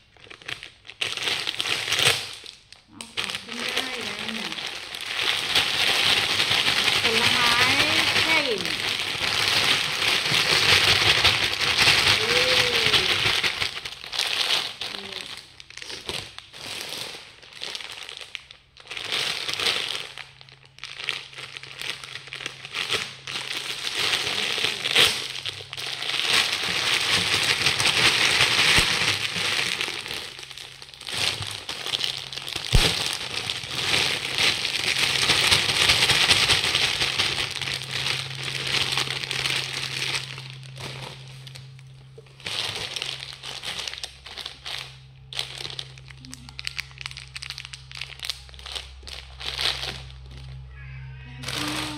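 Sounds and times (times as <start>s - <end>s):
plastic bags crinkling: 0.0s - 51.9s
faint low hum: 1.8s - 51.9s.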